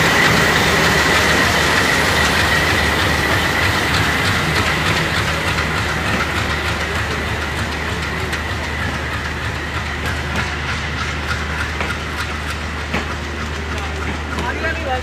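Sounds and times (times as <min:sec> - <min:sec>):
train coaches rumbling past: 0:00.0 - 0:15.0
wheels clicking over rail joints: 0:00.0 - 0:15.0.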